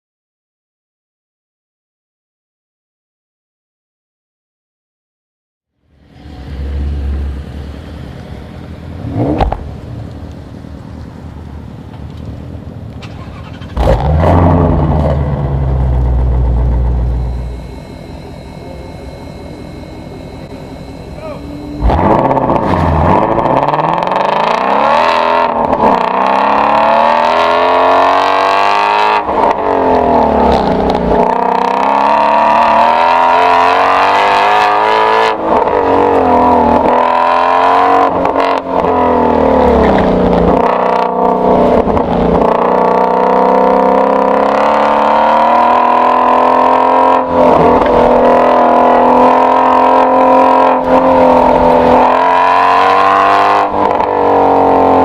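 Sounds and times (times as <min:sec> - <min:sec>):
car engine revving under acceleration: 0:06.1 - 0:10.0, 0:13.0 - 0:55.0.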